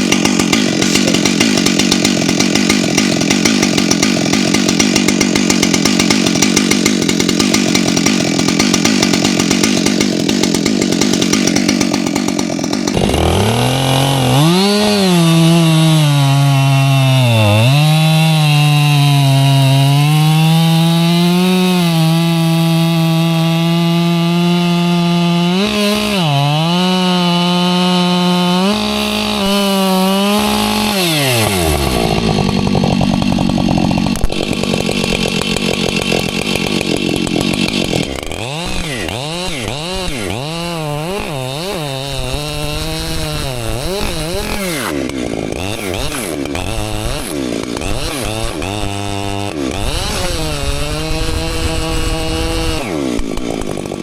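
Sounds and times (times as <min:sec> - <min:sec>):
chainsaw cutting into stump: 0:00.0 - 0:54.0.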